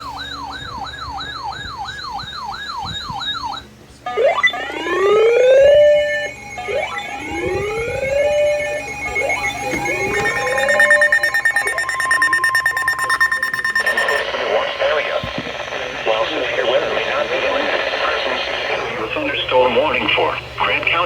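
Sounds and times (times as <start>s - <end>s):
siren warbling and wailing: 0.0s - 17.5s.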